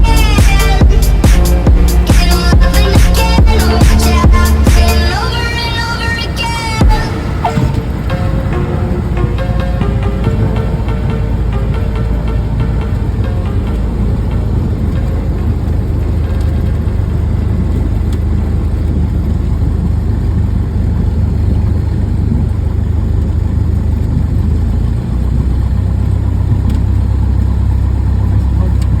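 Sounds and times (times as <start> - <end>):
piston aircraft engine droning: 0.0 - 29.0.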